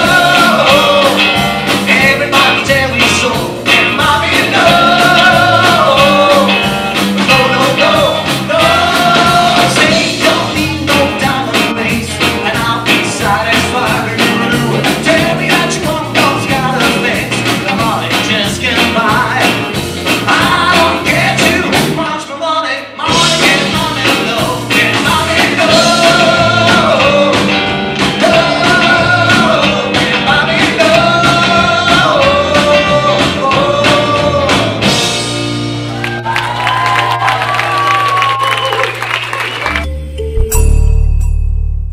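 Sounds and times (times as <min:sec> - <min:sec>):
person singing: 0:00.0 - 0:34.9
live rock and roll band: 0:00.0 - 0:39.8.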